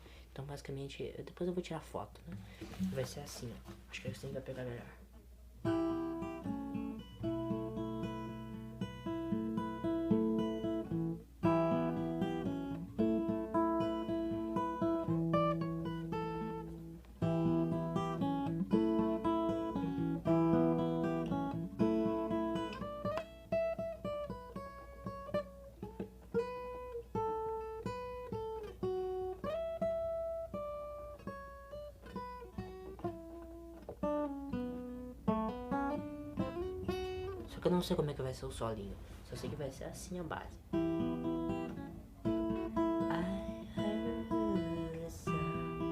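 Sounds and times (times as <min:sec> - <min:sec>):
solo guitar: 0:02.2 - 0:45.9.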